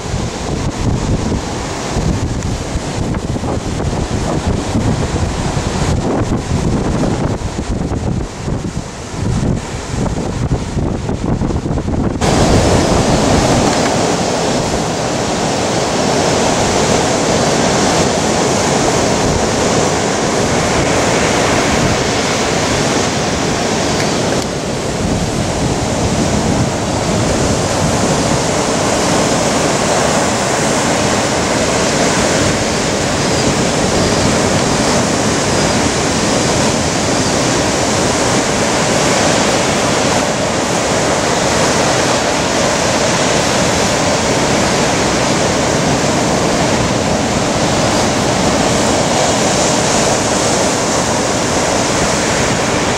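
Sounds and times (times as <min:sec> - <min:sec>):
heavy surf breaking: 0:00.0 - 0:52.9.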